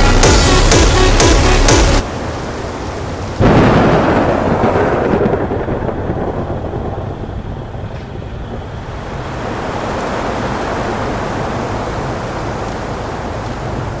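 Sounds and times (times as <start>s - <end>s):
heavy rain: 0.0s - 14.0s
wind: 0.0s - 14.0s.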